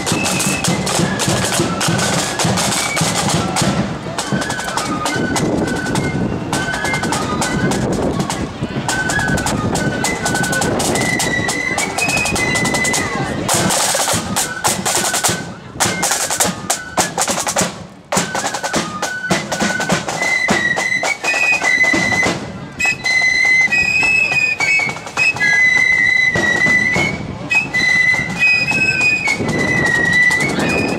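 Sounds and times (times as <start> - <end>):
flute melody: 0.0 - 30.9
snare and bass drums: 0.0 - 30.9.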